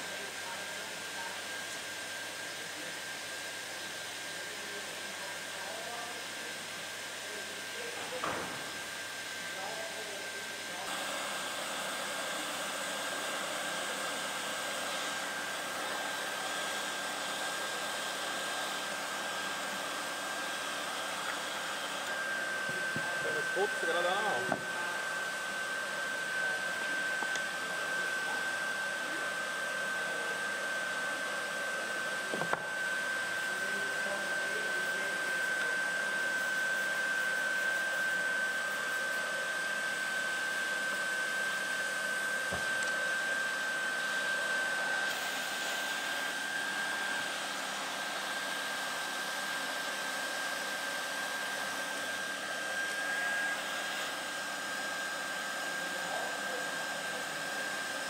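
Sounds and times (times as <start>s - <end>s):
hot-air blower whining: 0.0s - 58.0s.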